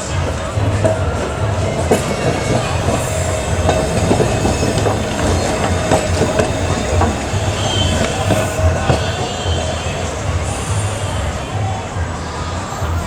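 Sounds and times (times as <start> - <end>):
tram rumble and held tone: 0.0 - 13.0
wheels clicking on rails: 0.0 - 13.0.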